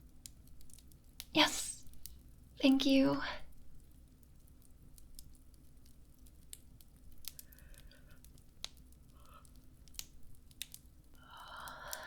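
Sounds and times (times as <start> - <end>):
bonfire crackling and popping: 0.0 - 2.6, 3.4 - 12.0.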